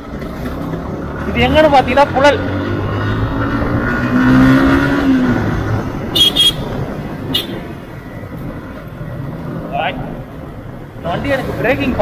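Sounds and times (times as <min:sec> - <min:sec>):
wind and road rumble: 0:00.0 - 0:12.0.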